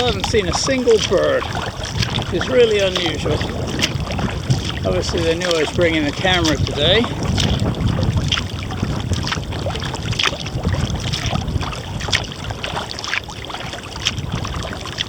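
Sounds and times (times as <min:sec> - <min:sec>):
paddle splashing in water: 0:00.0 - 0:15.0
wind rumble on microphone: 0:00.0 - 0:15.0.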